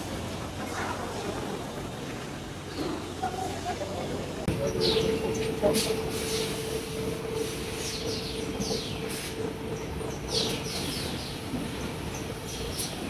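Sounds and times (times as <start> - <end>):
low machinery hum: 0.2 - 13.0.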